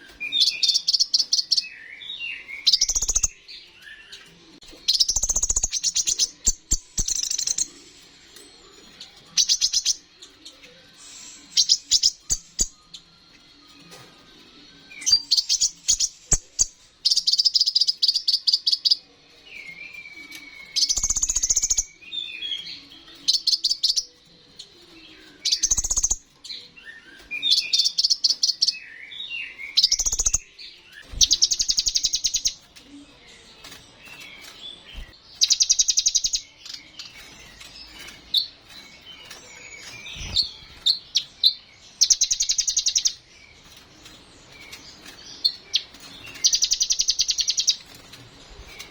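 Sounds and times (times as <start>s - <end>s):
soft bird twittering: 0.0s - 4.2s, 4.8s - 13.3s, 14.8s - 48.9s.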